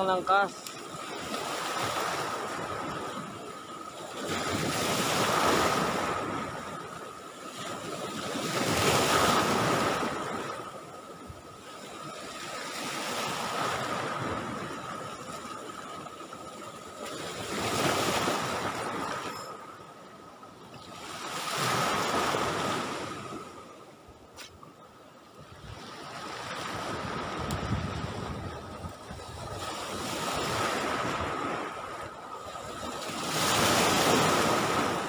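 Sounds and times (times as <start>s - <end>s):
waves breaking on beach: 0.0s - 35.0s.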